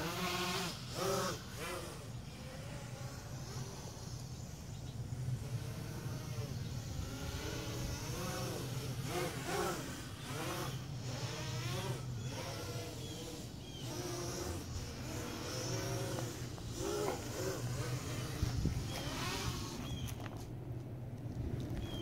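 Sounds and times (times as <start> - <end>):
quadcopter motors buzzing: 0.0 - 22.0.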